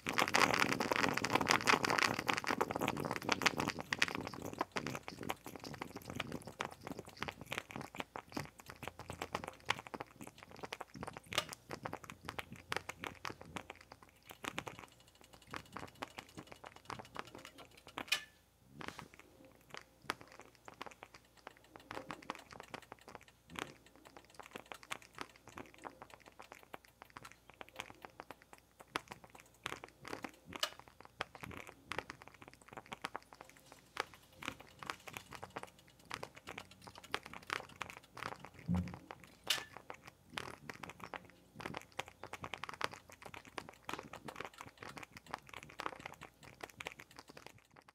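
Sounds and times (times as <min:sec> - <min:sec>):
moka pot crackling and popping: 0:00.0 - 0:47.9.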